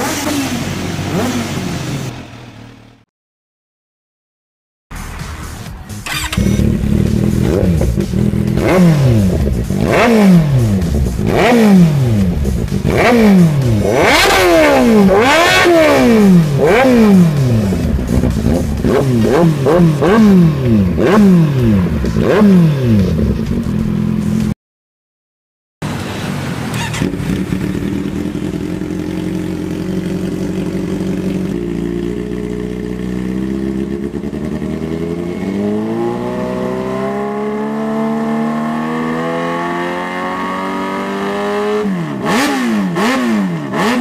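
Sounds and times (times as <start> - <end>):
motorcycle engine revving: 0.0 - 2.8, 5.8 - 24.6, 25.8 - 44.0.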